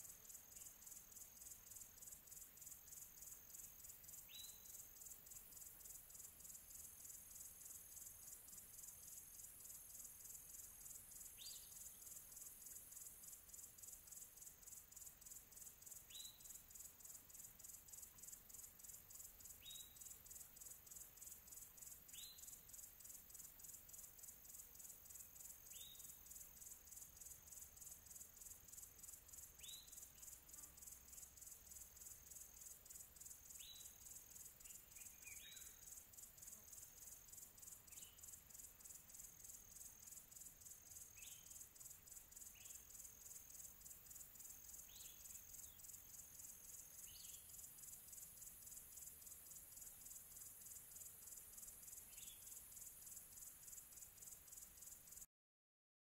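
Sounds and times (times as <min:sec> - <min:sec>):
crickets chirping: 0:00.0 - 0:55.3.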